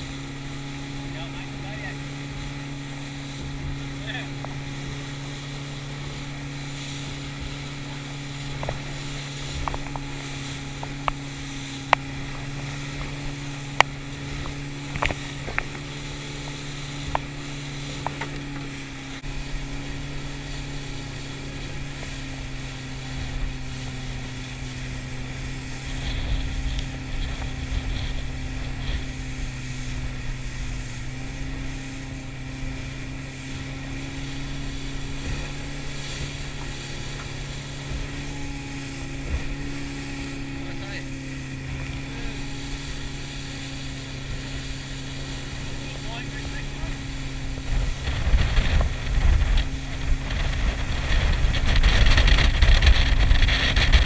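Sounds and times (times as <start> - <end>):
outboard motor humming: 0.0 - 54.0
water washing along hull: 0.0 - 54.0.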